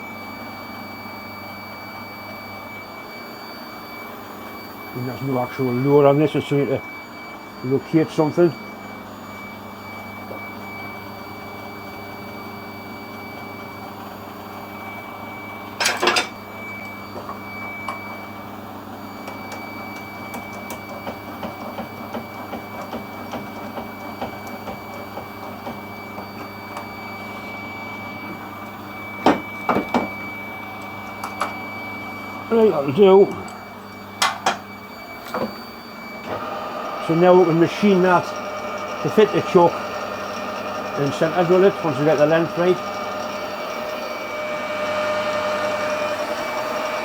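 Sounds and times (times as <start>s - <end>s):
metal lathe hum and whine: 0.0s - 47.0s.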